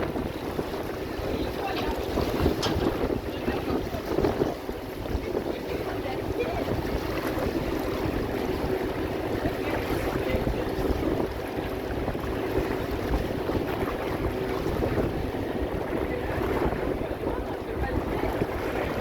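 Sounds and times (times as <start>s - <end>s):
motorboat hum: 0.0s - 19.0s
waves washing: 0.0s - 19.0s
wind buffeting microphone: 0.0s - 19.0s.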